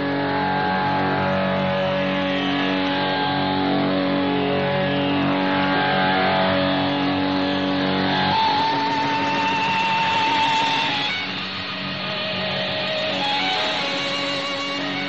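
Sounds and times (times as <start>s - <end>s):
low drone: 0.0s - 15.0s
wavering high note: 0.0s - 15.0s.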